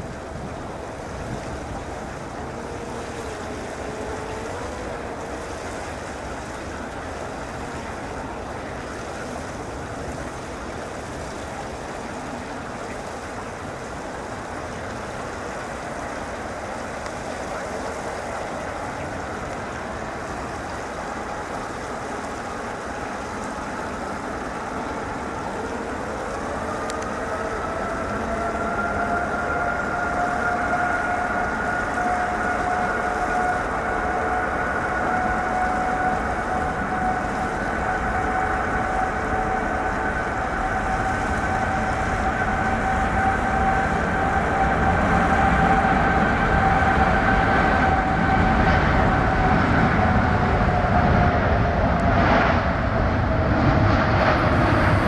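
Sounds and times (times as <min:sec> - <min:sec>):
jet engines spooling up: 0:00.3 - 0:55.0.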